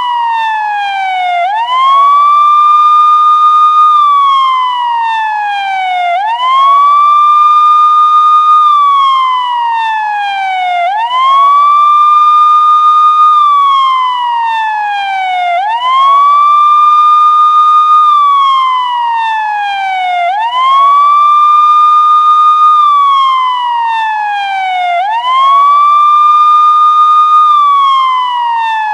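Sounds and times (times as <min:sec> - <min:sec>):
police siren wailing: 0:00.0 - 0:28.9.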